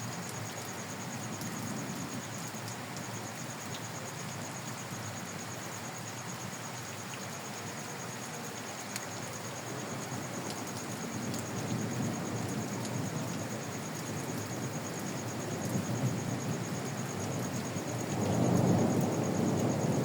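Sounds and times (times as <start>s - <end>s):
insect chirping: 0.0s - 20.0s
rain hiss: 0.0s - 20.0s.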